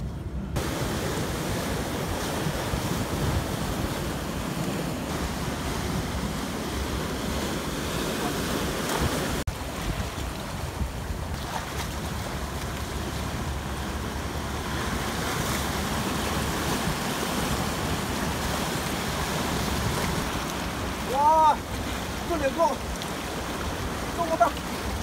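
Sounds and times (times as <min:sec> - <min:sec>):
wind rumbling on microphone: 0:00.0 - 0:25.0
surf breaking on rocks: 0:00.6 - 0:25.0.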